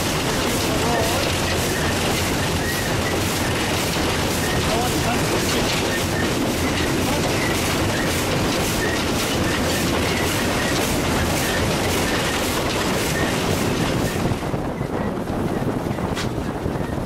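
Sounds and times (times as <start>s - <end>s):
engine and wheels running noise: 0.0s - 17.0s
steam locomotive exhaust beat: 0.0s - 17.0s.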